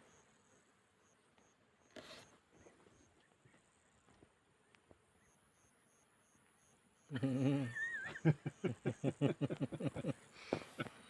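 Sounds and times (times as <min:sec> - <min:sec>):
insects ticking faintly: 0:00.0 - 0:11.0.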